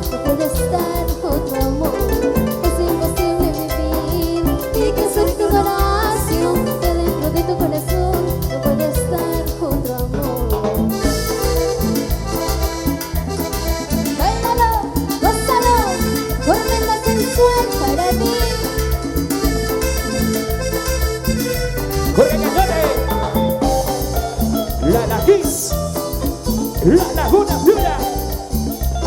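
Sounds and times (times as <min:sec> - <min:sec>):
live band playing latin dance music: 0:00.0 - 0:29.0.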